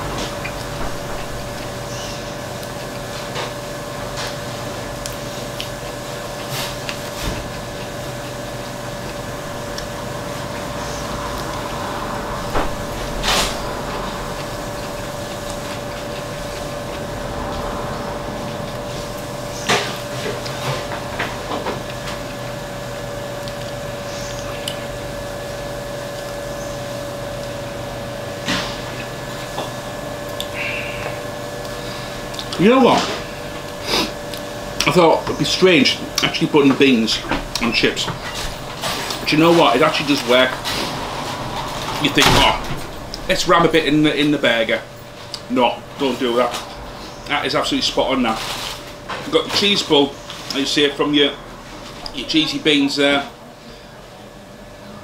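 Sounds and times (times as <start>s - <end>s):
room hum: 0.0s - 55.0s.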